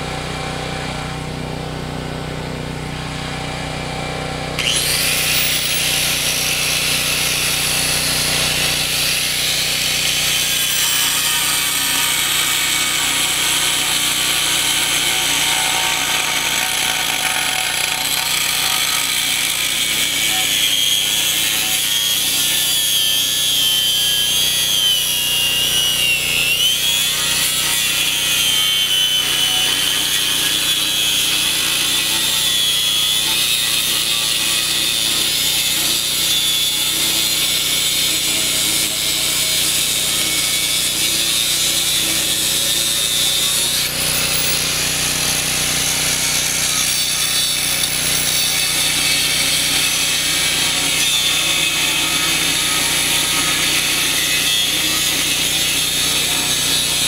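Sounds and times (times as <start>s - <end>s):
angle grinder cutting steel: 4.6s - 57.0s.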